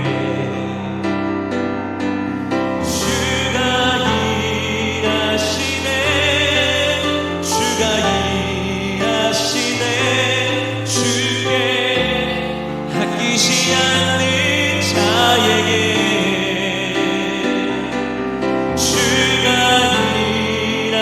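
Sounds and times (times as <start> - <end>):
sustained instrumental accompaniment: 0.0 - 21.0
voices singing with vibrato: 0.0 - 21.0.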